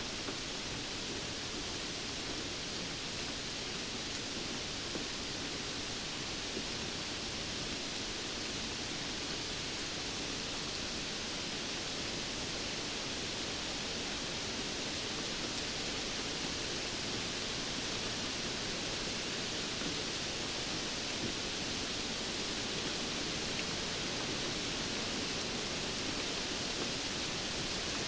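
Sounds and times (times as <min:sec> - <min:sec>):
steady rainfall hiss: 0:00.0 - 0:28.0.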